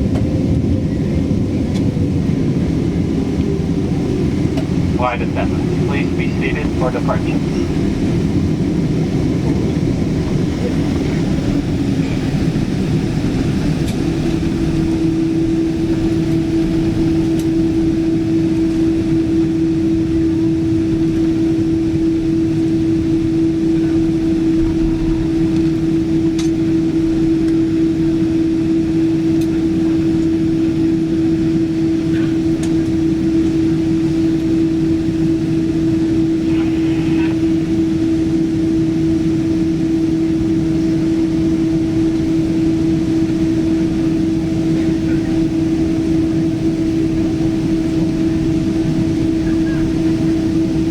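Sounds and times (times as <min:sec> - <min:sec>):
jet engine noise in cabin: 0:00.0 - 0:50.9
steady hum: 0:00.0 - 0:50.9.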